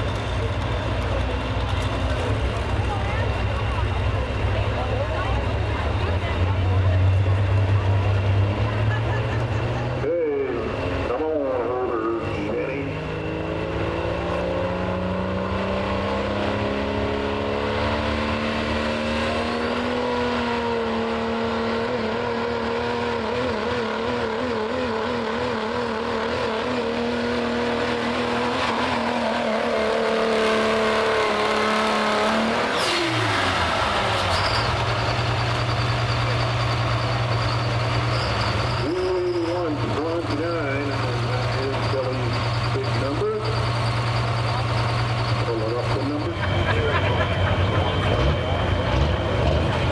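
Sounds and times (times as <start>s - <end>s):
diesel engine at full throttle: 0.0s - 49.9s.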